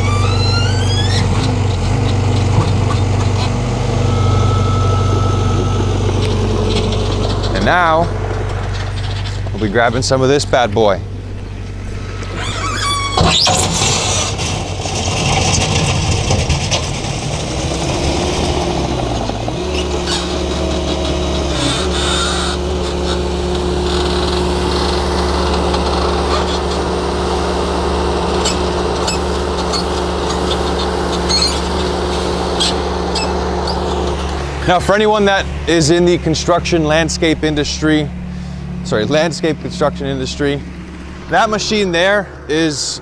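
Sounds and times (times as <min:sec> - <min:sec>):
skid steer engine humming: 0:00.0 - 0:43.0
gravel scraping and rattling: 0:00.8 - 0:04.1, 0:05.0 - 0:43.0.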